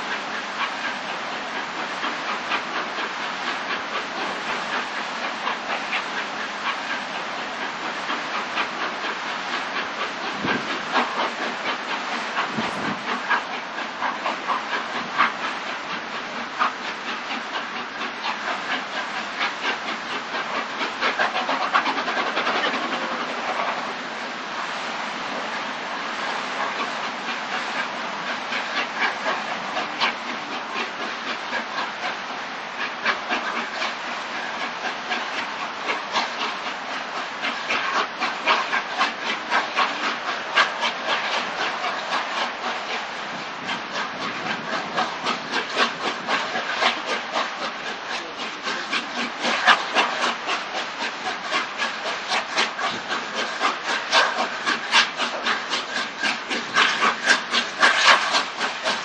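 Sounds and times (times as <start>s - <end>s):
steam hiss: 0.0s - 59.0s
steam locomotive exhaust beats: 0.0s - 59.0s.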